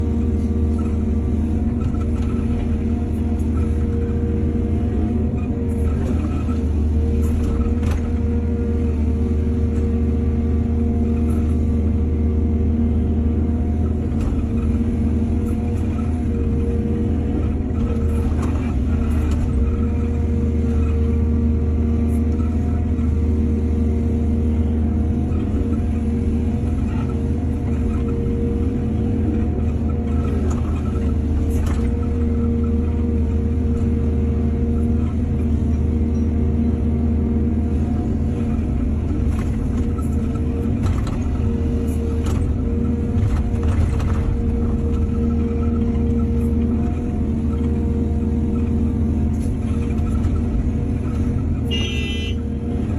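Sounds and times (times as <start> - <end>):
diesel excavator engine running: 0.0 - 52.9.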